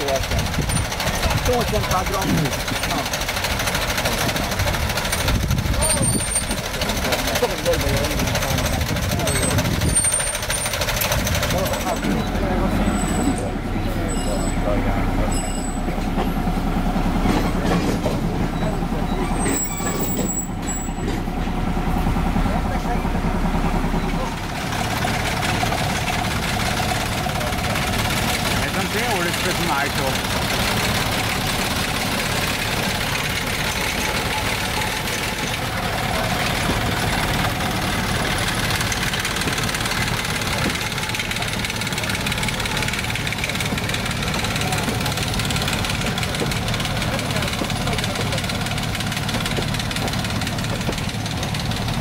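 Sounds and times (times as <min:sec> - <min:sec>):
diesel engine idling: 0:00.0 - 0:52.0
train rumbling: 0:00.0 - 0:52.0.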